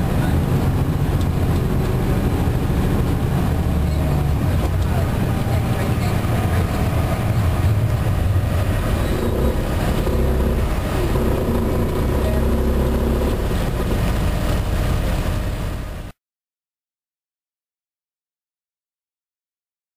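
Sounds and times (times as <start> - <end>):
coach diesel engine rumble: 0.0 - 16.1.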